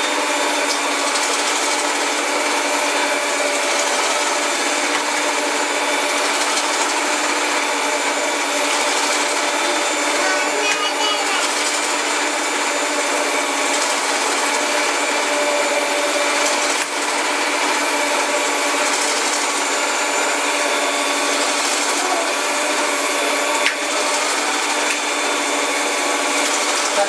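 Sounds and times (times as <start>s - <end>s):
electric stand mixer running: 0.0s - 27.0s.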